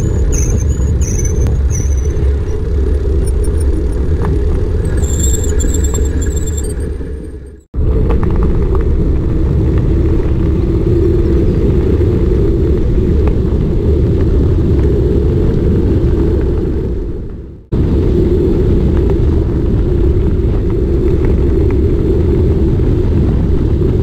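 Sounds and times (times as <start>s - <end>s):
wind and tyre rumble: 0.0s - 24.0s.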